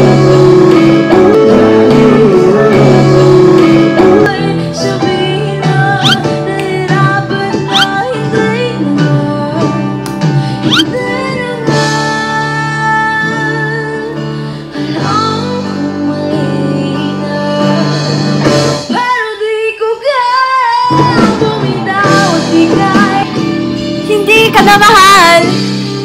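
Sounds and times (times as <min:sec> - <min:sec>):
backing track with guitar: 0:00.0 - 0:19.4, 0:20.8 - 0:26.0
woman singing a ballad: 0:00.0 - 0:25.6.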